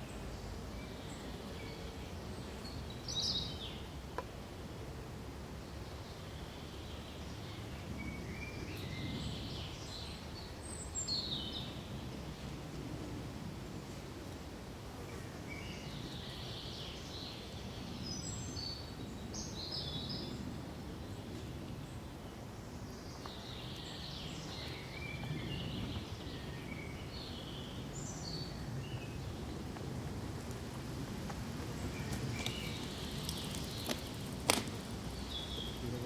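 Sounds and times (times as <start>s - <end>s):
low rush of background noise: 0.0s - 36.0s
songbirds chirping: 0.0s - 36.0s.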